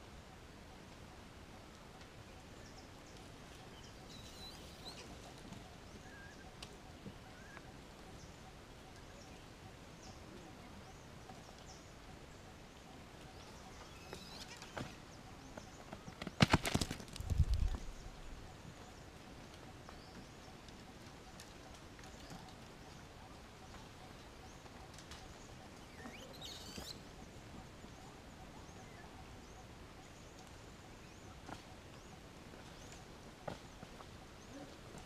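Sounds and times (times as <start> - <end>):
faint bird chirps: 1.5 - 16.2, 17.5 - 33.1.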